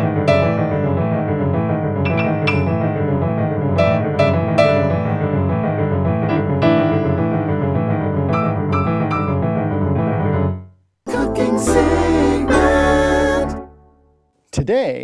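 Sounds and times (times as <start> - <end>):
different music: 0.0 - 14.2
piano music: 0.0 - 14.2.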